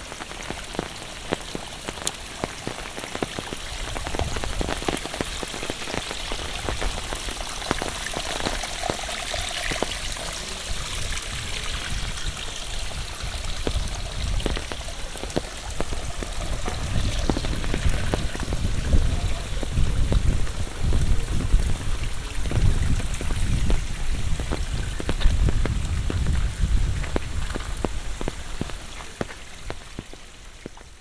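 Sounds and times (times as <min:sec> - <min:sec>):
rain falling: 0:00.0 - 0:31.0
raindrops tapping close by: 0:00.0 - 0:31.0.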